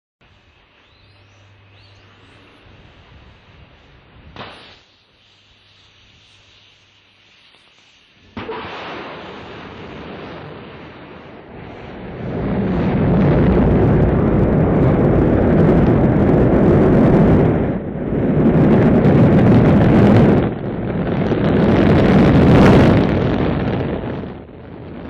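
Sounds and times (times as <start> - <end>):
rocket engines rumbling: 0.2 - 25.0.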